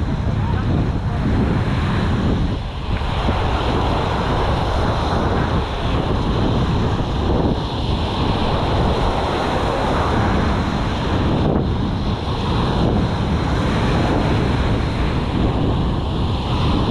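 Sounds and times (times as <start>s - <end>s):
surf breaking on a beach: 0.0s - 16.9s
wind buffeting microphone: 0.0s - 16.9s.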